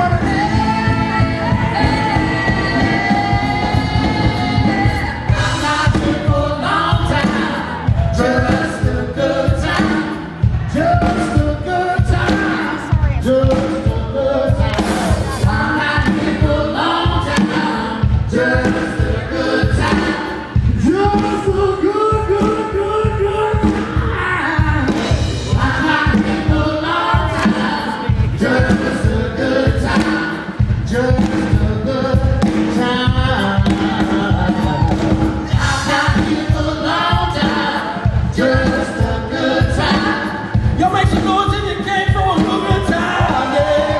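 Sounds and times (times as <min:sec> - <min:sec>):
live rock band playing: 0:00.0 - 0:43.9
several voices singing: 0:00.0 - 0:43.9
steady drum beat: 0:00.0 - 0:43.9.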